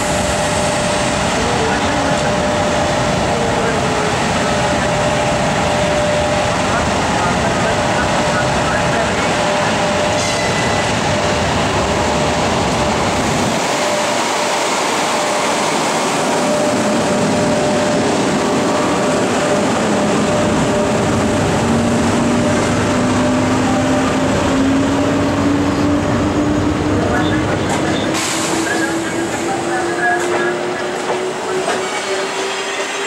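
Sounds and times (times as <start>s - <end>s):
electric locomotive hum: 0.0s - 33.0s
train rolling by: 0.0s - 33.0s.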